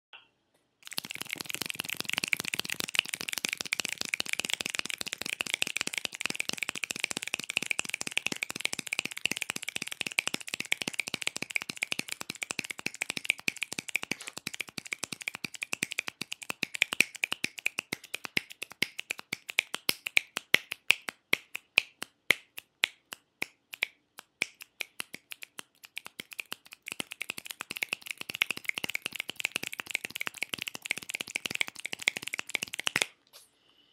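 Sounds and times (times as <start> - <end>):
fingers snapping: 0.8 - 33.2.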